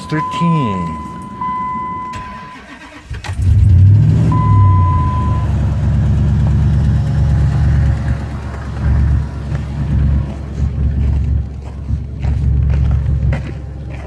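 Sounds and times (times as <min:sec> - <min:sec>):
engine idling: 0:00.0 - 0:14.0
engine cranking and starting: 0:01.0 - 0:13.3.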